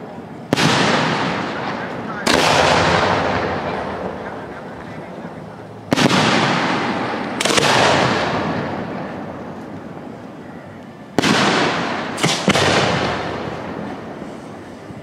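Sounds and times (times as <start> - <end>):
rolling echo of bangs: 0.0 - 4.8, 5.9 - 10.0, 11.1 - 14.2
fireworks shells bursting: 0.0 - 5.1, 5.9 - 10.1, 11.1 - 14.8.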